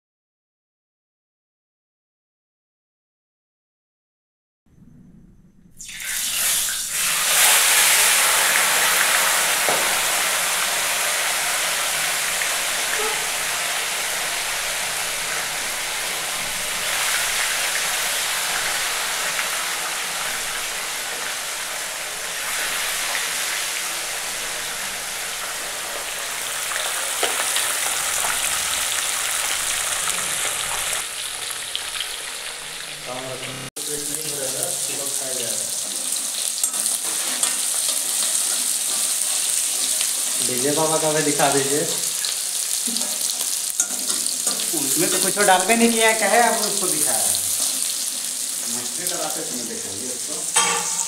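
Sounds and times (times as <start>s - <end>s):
fish sizzling in hot oil: 5.8s - 51.0s.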